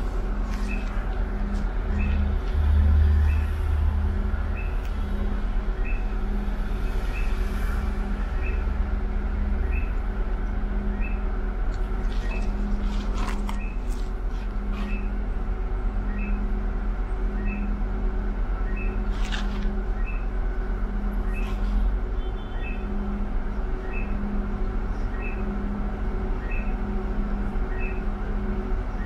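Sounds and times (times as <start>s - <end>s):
bus engine rumbling: 0.0s - 29.0s.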